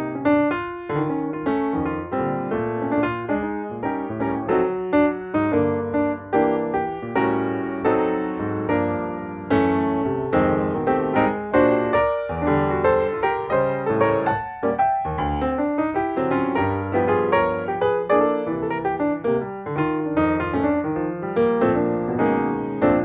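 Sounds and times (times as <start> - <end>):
slow solo piano melody: 0.0 - 23.0.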